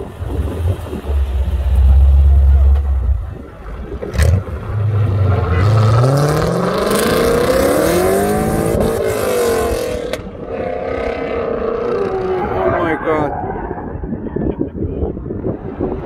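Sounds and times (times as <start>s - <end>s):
car engine accelerating hard: 0.1s - 13.4s.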